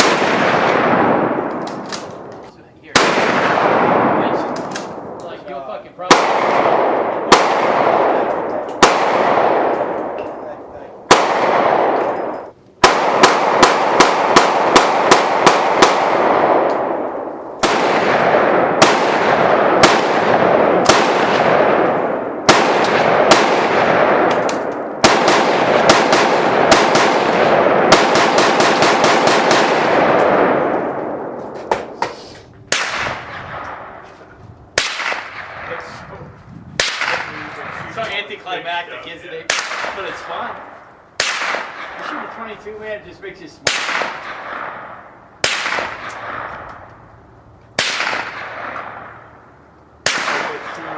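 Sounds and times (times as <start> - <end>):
gunshots echoing: 0.0 - 43.0, 43.6 - 47.1, 47.8 - 50.9.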